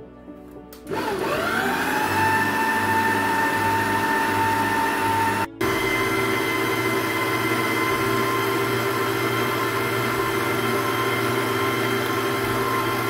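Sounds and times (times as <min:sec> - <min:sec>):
electric stand mixer running: 0:00.9 - 0:13.0.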